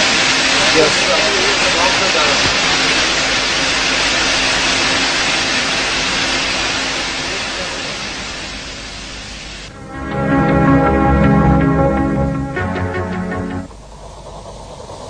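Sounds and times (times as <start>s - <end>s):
loud rushing hiss: 0.0s - 15.0s.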